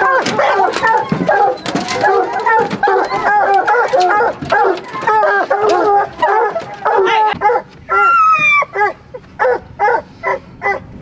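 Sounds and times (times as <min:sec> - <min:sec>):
hounds barking and bawling: 0:00.0 - 0:11.0.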